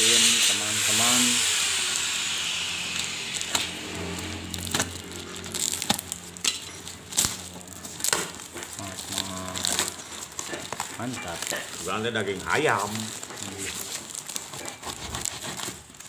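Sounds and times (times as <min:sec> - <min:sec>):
cardboard and tape ripping: 0:02.9 - 0:16.0.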